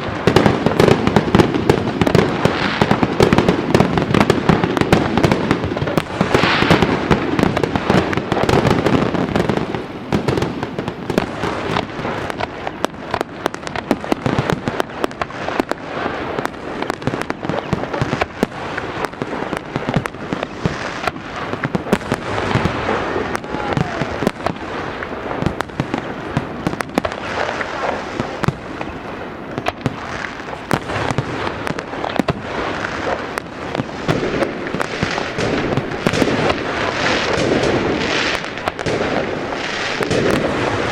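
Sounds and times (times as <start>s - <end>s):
fireworks crackles and bangs: 0.0s - 40.9s.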